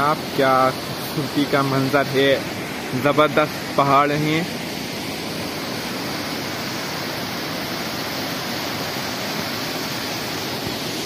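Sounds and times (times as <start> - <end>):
stream and waterfall rushing: 0.0 - 11.0.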